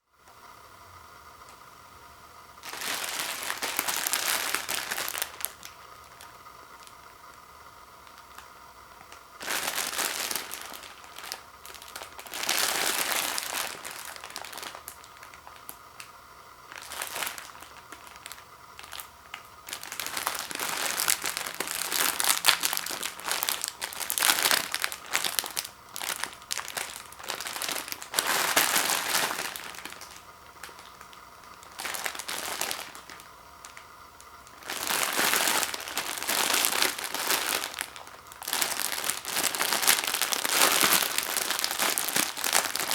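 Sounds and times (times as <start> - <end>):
plastic wrapping crinkling: 2.6 - 42.9.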